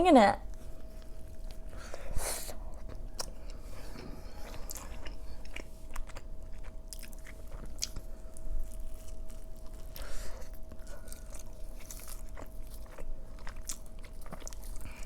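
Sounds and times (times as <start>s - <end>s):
chewing and biting food: 0.5s - 15.0s.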